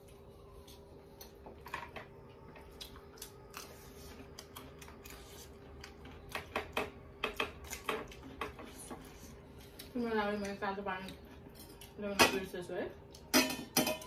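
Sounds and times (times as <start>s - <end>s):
people chewing food: 0.0s - 12.0s
faint steady hum: 0.0s - 14.0s.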